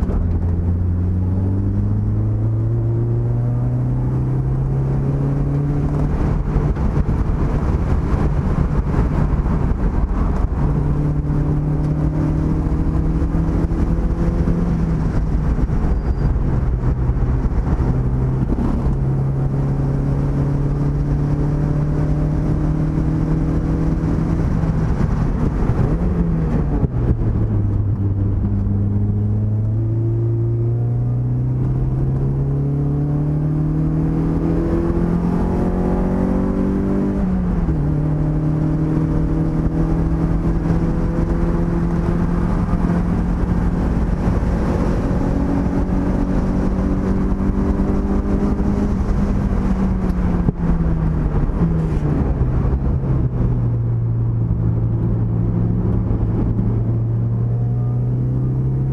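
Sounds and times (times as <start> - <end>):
car engine revving and shifting: 0.0 - 58.9.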